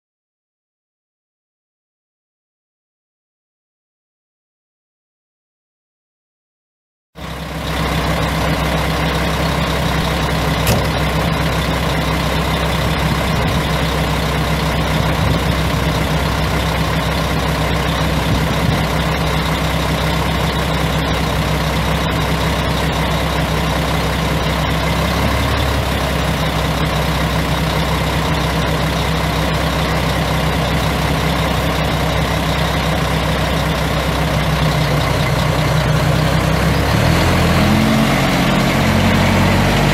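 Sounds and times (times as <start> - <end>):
truck diesel engine idling: 7.2 - 39.9.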